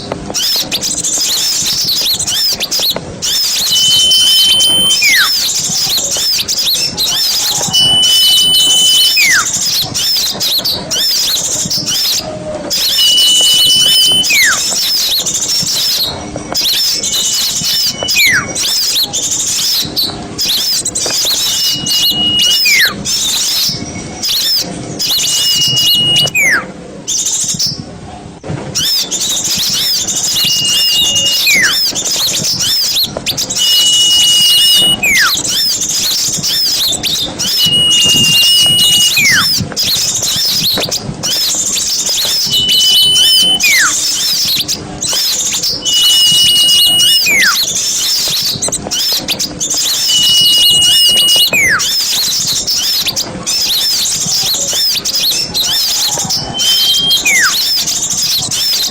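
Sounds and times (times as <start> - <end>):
songbirds twittering: 0.0 - 27.9, 28.7 - 58.9
bird whistle with downward slur: 0.4 - 26.7, 28.8 - 58.9.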